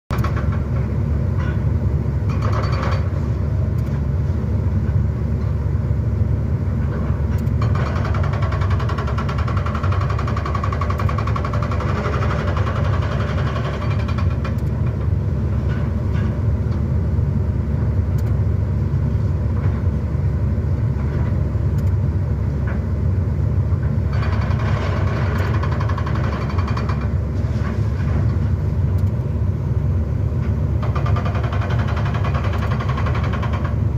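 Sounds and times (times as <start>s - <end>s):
excavator engine rumbling: 0.1s - 33.9s.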